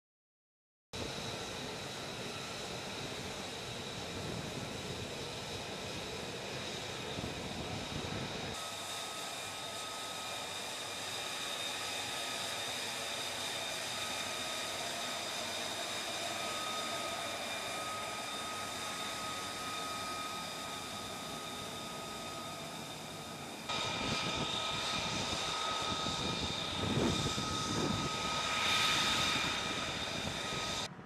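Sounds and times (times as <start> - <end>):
jet engine whine: 1.0 - 31.0.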